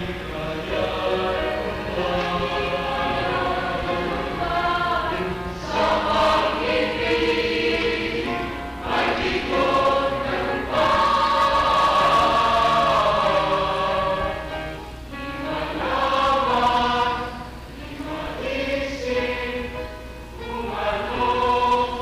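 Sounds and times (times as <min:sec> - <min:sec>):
choir singing in harmony: 0:00.0 - 0:22.0.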